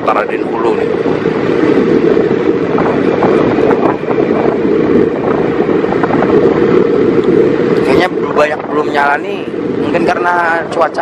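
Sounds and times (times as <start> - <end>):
road noise: 0.0 - 11.0
vehicle engine rumble: 0.0 - 11.0
wind rushing over microphone: 0.0 - 11.0.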